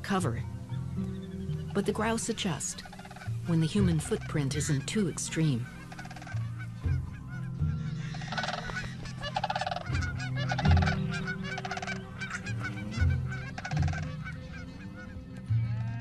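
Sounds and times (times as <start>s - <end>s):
large waterbirds honking: 0.0s - 16.0s.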